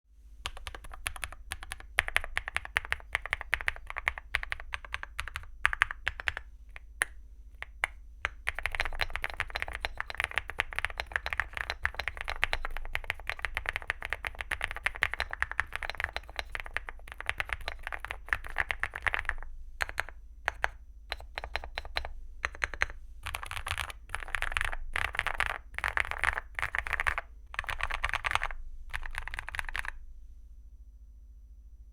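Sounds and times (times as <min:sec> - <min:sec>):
mechanical keyboard typing: 0:00.5 - 0:30.0.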